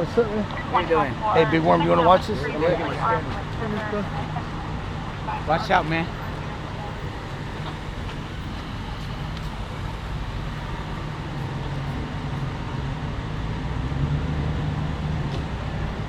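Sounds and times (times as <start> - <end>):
street traffic: 0.0 - 16.0
vehicle engine humming: 0.0 - 16.0.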